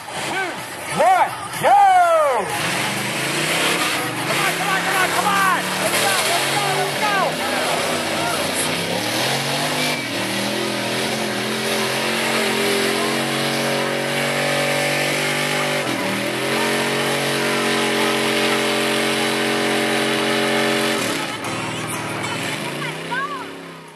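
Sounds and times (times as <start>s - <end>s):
truck engine revving hard: 0.0s - 23.9s.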